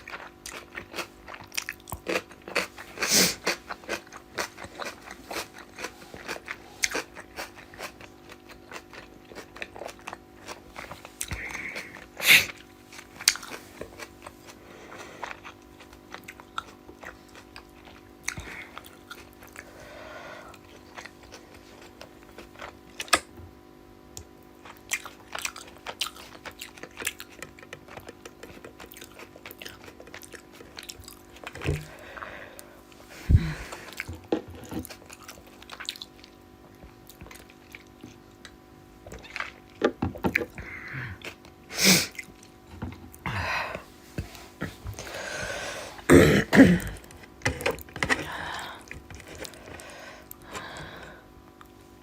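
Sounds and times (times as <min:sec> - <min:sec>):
person chewing food: 0:00.0 - 0:23.4, 0:24.1 - 0:46.1, 0:46.8 - 0:52.0.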